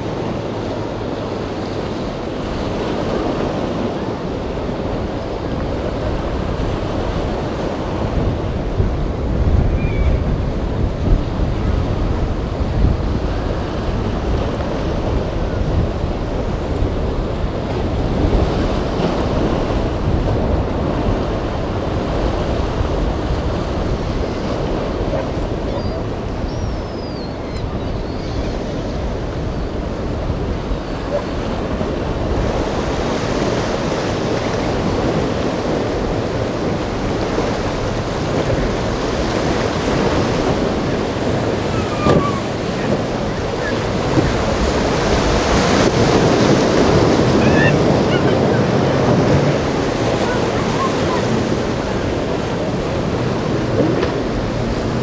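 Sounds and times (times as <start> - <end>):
waves breaking: 0.0 - 55.0
wind buffeting microphone: 0.0 - 55.0.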